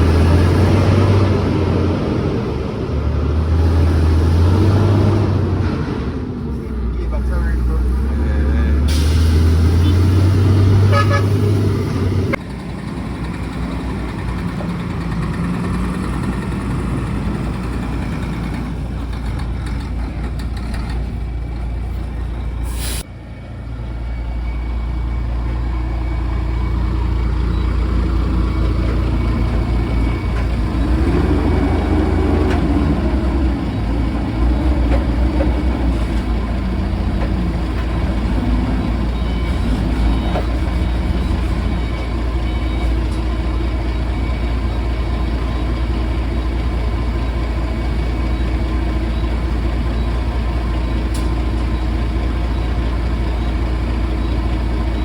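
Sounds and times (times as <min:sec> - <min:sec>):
diesel truck engines idling: 0:00.0 - 0:55.0.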